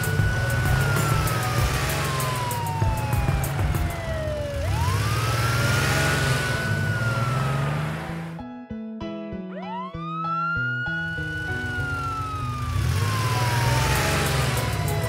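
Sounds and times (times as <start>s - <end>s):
cartoon police siren wailing: 0.0s - 8.4s, 9.5s - 15.0s.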